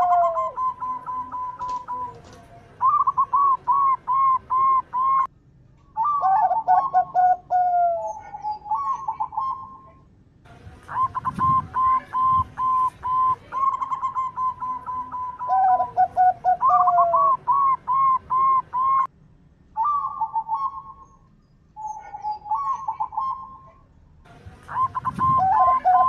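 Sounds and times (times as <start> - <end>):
doves cooing: 0.0 - 5.3, 6.0 - 10.0, 10.8 - 19.1, 21.8 - 23.8, 24.5 - 26.0.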